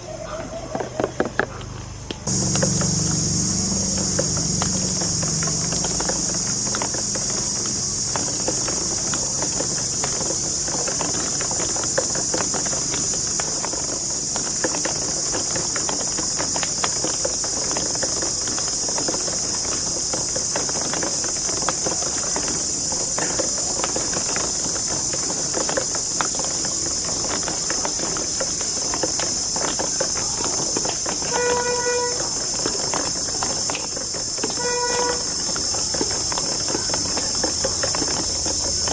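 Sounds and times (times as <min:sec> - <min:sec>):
steady hiss: 0:02.3 - 0:38.9.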